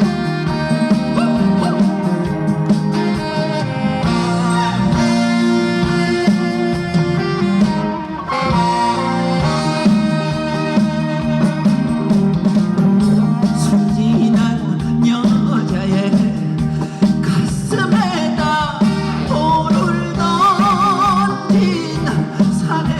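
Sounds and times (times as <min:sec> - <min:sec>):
instrumental band music: 0:00.0 - 0:22.9.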